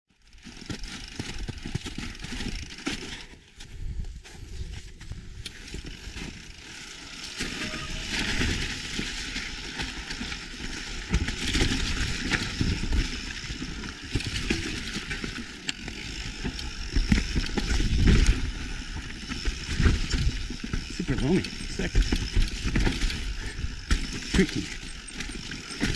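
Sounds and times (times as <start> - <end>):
bike knocking and rattling: 0.1 - 25.9
bike tyres rolling over rock: 0.2 - 25.9.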